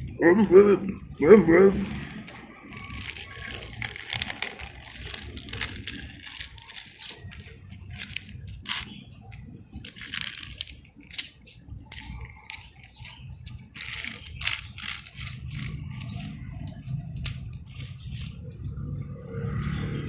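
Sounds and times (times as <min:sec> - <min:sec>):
plastic toys clicking and clattering: 0:00.0 - 0:19.8.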